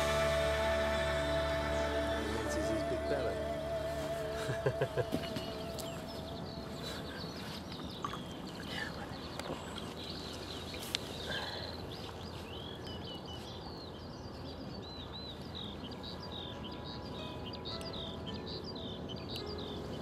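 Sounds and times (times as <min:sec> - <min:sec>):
small birds chirping and trilling: 0:00.0 - 0:20.0.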